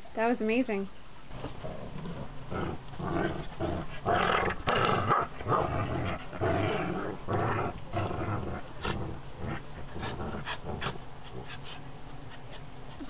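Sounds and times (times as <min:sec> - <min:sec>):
dog growling: 0:01.3 - 0:12.6.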